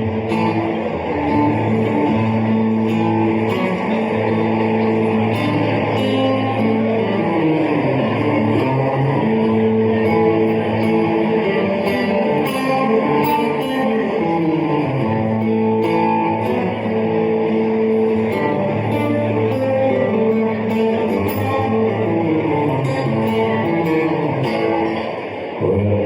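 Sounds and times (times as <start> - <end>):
guitars: 0.0 - 26.0.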